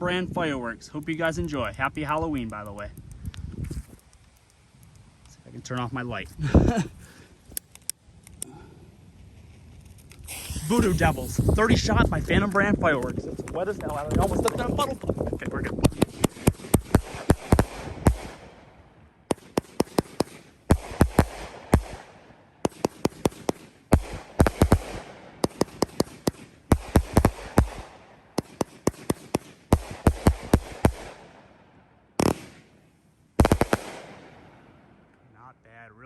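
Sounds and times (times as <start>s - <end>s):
firework bangs and crackling: 0.4s - 7.0s, 9.2s - 18.7s, 19.3s - 31.4s, 32.2s - 32.8s, 33.4s - 34.6s.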